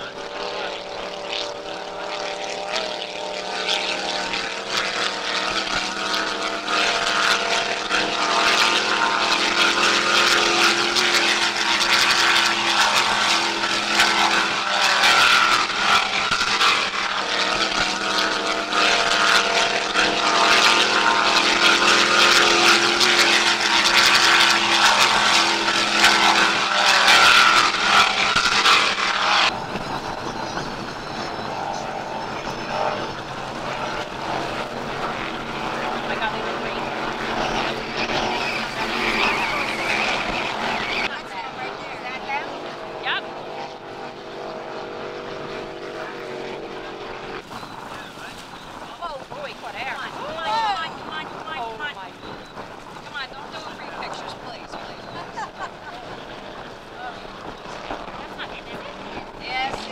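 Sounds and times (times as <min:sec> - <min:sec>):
powerboat engines running: 0:00.0 - 0:59.9
wind buffeting microphone: 0:00.0 - 0:59.9.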